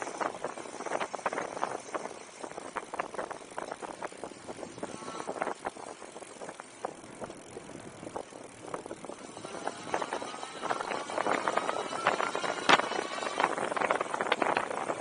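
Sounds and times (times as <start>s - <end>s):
bike clicks and rattles: 0.0s - 15.0s
wind noise on microphone: 0.0s - 15.0s.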